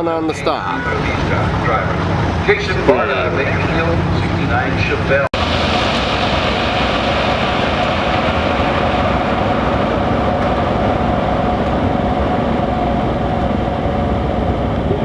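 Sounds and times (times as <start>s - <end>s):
racing car engine running: 0.7s - 15.0s.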